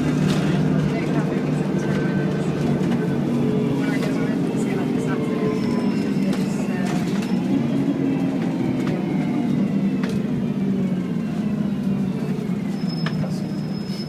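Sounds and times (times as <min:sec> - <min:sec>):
bus engine whining: 0:00.0 - 0:14.0.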